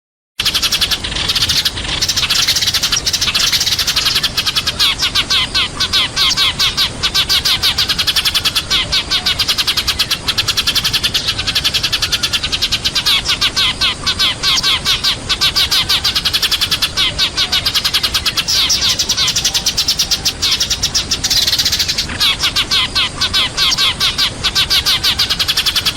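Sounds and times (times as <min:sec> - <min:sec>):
flock of sparrows chirping: 0:00.4 - 0:25.9.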